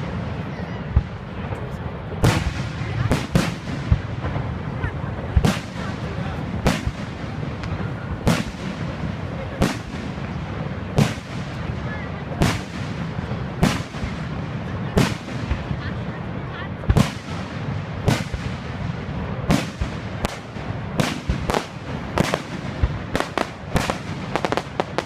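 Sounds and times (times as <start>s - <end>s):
fireworks booming: 0.0s - 25.0s.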